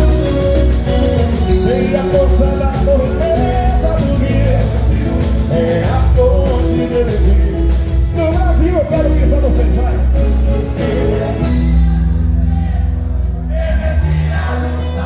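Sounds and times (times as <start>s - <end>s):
heavy bass: 0.0s - 15.0s
live band playing: 0.0s - 15.0s
person singing: 0.0s - 15.0s.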